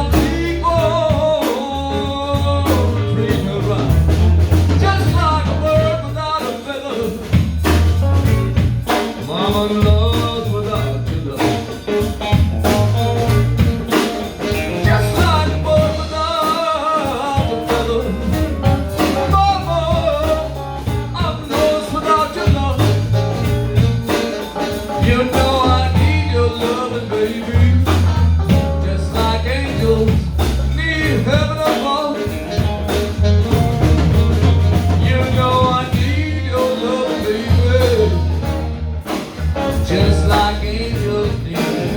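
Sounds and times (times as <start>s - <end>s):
drums: 0.0s - 41.9s
live blues band playing: 0.0s - 41.9s
walking bass: 0.0s - 41.9s.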